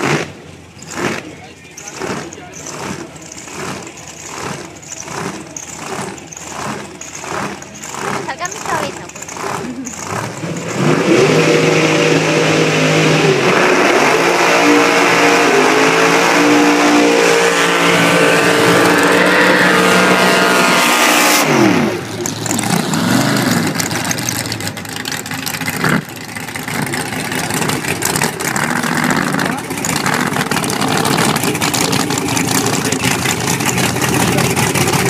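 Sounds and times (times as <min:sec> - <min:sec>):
drag race cars accelerating: 0:00.0 - 0:35.0.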